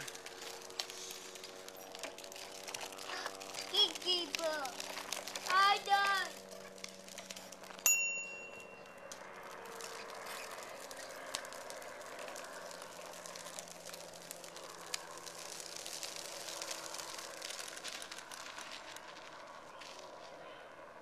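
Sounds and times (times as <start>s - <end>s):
plastic wheels rolling on asphalt: 0.0s - 21.0s.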